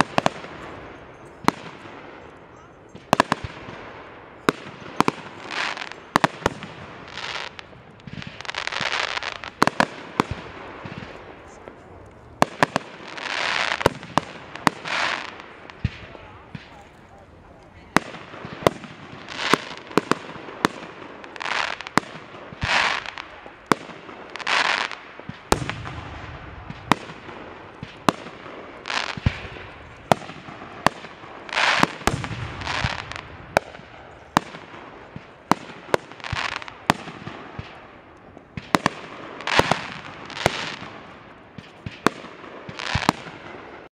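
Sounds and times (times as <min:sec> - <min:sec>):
deep fireworks booms: 0:00.0 - 0:43.9
fireworks rushing bursts: 0:00.0 - 0:43.9
fireworks sharp bangs: 0:00.0 - 0:43.9.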